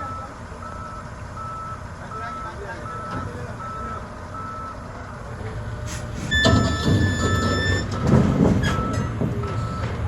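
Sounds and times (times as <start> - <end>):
reversing alarm beeping: 0.0 - 4.8, 6.3 - 10.0.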